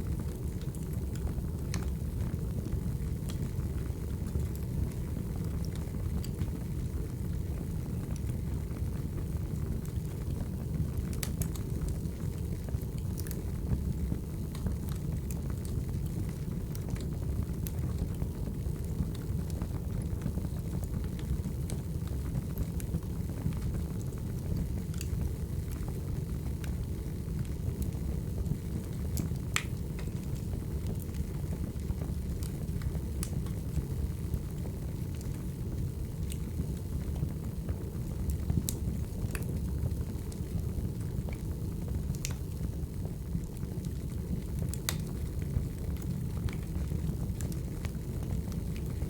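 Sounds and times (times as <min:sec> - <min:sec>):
firewood fire crackling: 0:00.0 - 0:49.0.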